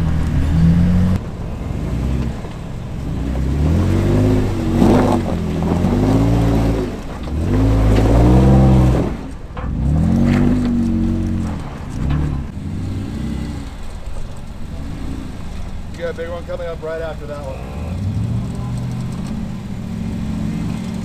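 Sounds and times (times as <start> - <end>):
engine revving in bursts: 0.0 - 21.0.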